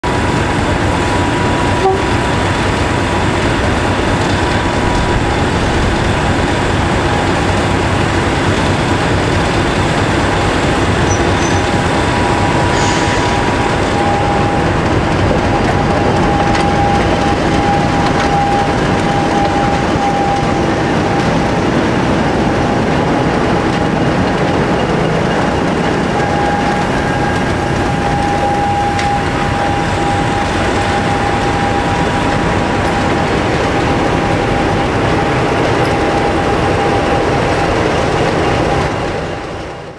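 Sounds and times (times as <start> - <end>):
diesel locomotive engines running: 0.0 - 39.9.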